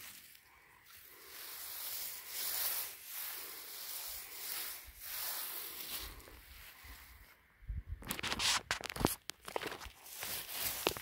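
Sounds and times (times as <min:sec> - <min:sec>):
tall grass rustling: 0:00.0 - 0:11.0.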